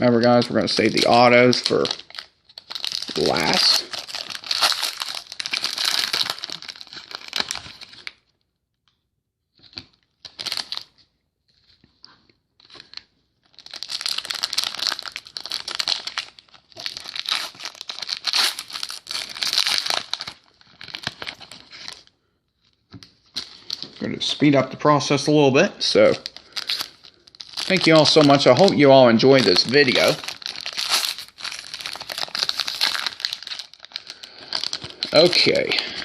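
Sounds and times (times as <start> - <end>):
card pack wrappers tearing and crinkling: 0.2 - 8.2, 9.6 - 11.0, 12.6 - 24.4, 25.8 - 36.0.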